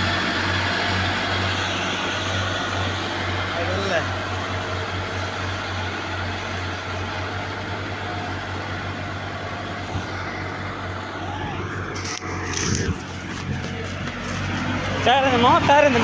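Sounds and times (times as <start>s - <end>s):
tractor diesel engine running: 0.0s - 16.0s
wheel churning through mud: 0.0s - 16.0s.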